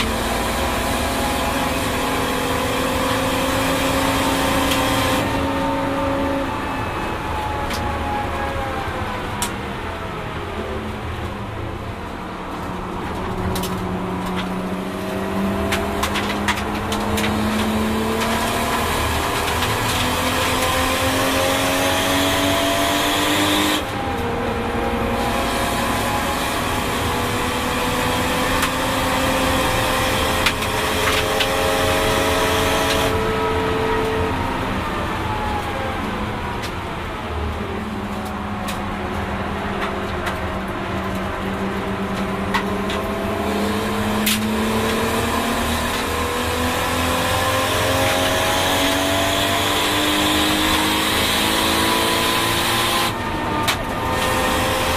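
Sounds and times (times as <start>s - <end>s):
car engine revving: 0.0s - 9.5s, 10.4s - 54.9s.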